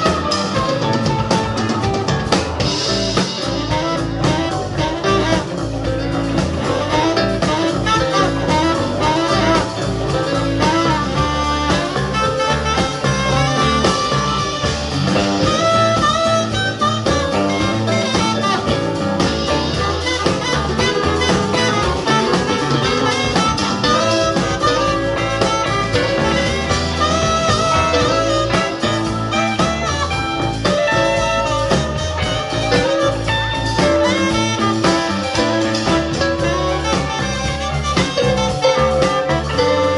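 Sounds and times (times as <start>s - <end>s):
live blues band playing: 0.0s - 39.9s
saxophone: 0.0s - 39.9s.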